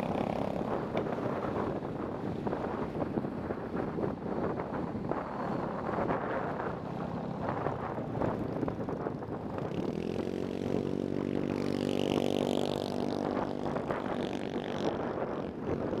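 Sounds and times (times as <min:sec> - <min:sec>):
motorcycle engine: 0:00.0 - 0:16.0
wind buffeting microphone: 0:00.0 - 0:16.0.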